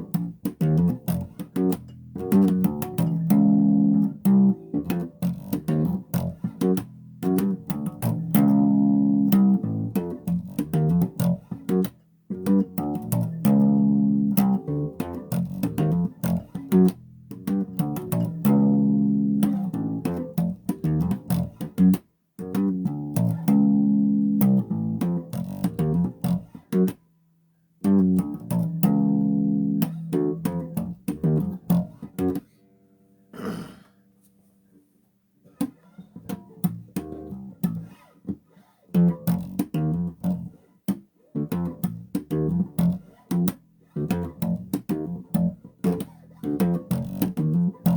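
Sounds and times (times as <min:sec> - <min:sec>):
solo bass guitar: 0:00.0 - 0:27.0, 0:27.8 - 0:32.6, 0:35.4 - 0:47.9.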